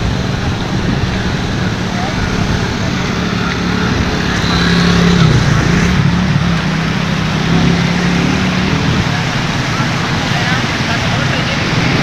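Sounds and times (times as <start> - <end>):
floodwater rushing: 0.0 - 12.0
motorcycle rickshaw engine: 0.0 - 12.0.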